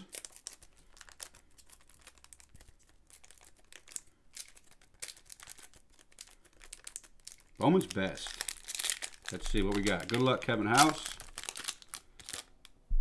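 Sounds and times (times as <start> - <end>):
foil wrapper crinkling and tearing: 0.0 - 12.8.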